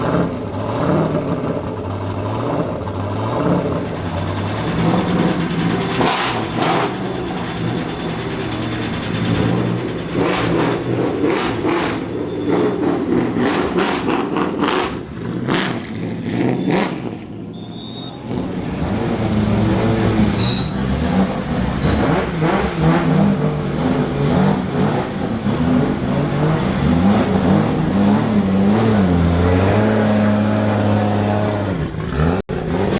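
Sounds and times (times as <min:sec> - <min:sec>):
car engine revving: 0:00.0 - 0:17.6, 0:18.2 - 0:32.9.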